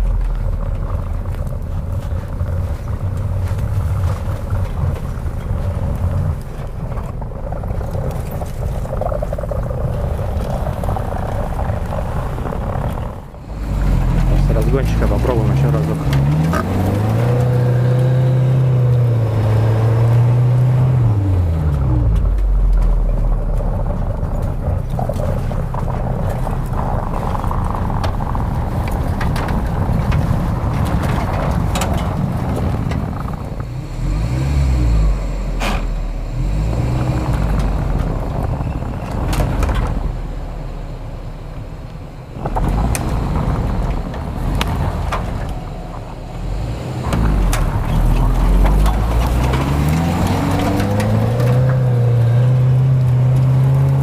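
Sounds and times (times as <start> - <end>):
suv engine revving: 0.0 - 54.0.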